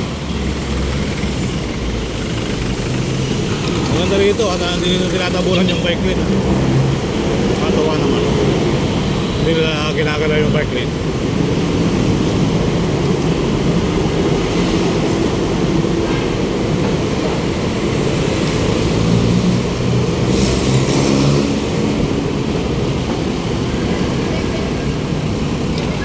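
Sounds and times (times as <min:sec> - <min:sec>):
heavy engine passing close: 0:00.0 - 0:26.0
road traffic rumble: 0:00.0 - 0:26.0.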